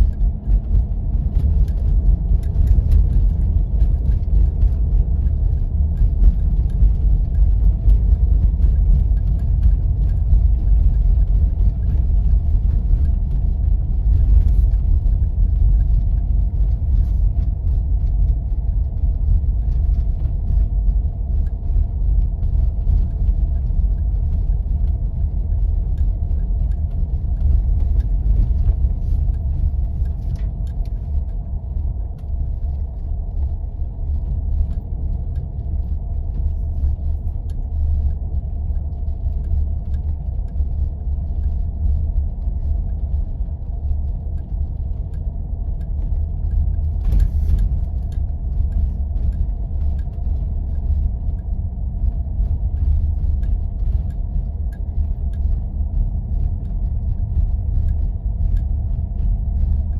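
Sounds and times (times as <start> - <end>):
engine and tyres rumbling: 0.0 - 59.9
faint steady whine: 0.0 - 59.9
light ticks: 0.0 - 59.9.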